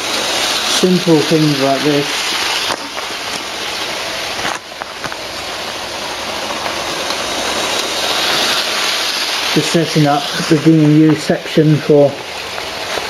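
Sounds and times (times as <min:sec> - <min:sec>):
model train rolling on track: 0:00.0 - 0:13.0.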